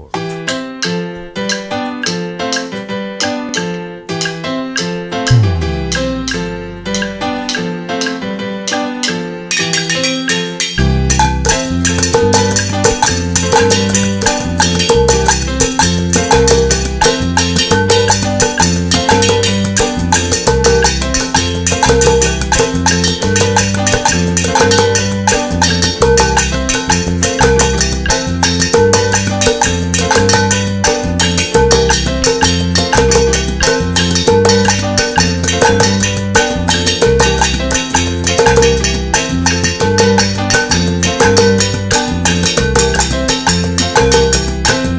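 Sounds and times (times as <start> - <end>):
low bass notes: 4.9 - 8.0, 10.8 - 44.9
sticks striking metal pot: 5.2 - 8.2, 9.5 - 44.9.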